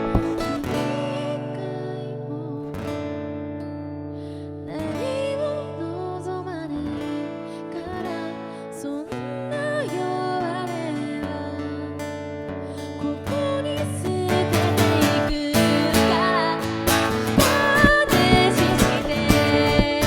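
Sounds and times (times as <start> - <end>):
woman singing: 0.0 - 3.4, 4.6 - 20.0
guitar chords strummed: 0.0 - 20.0.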